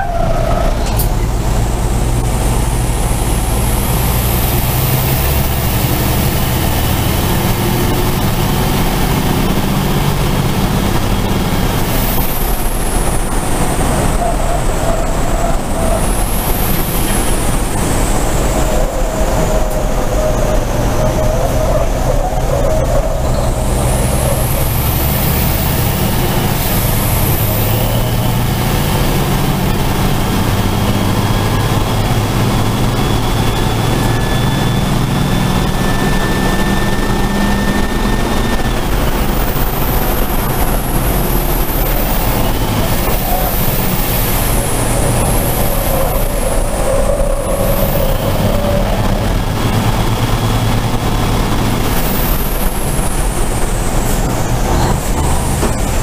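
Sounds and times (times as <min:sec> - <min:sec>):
diesel engine running hard: 0:00.0 - 0:56.0
high whistle sweeping: 0:04.0 - 0:29.9, 0:30.6 - 0:55.7.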